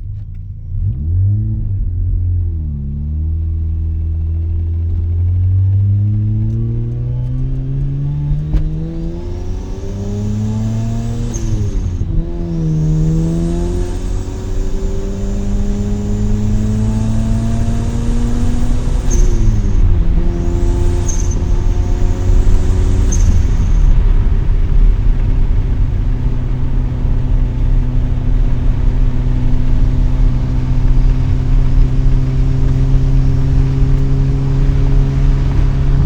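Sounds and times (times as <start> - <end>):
rotary engine accelerating: 0.0 - 36.0.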